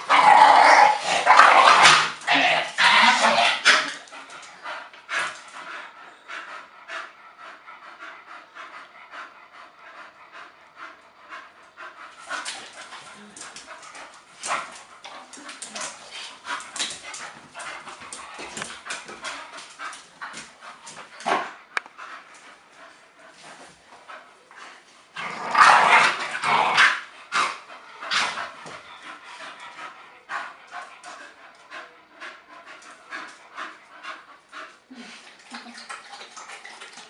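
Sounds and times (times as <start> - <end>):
dog panting: 3.8 - 25.0, 27.2 - 37.0.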